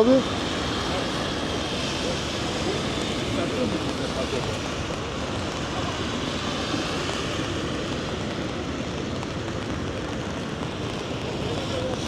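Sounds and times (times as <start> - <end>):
outdoor bustle: 0.0 - 12.0
traffic: 0.0 - 12.0.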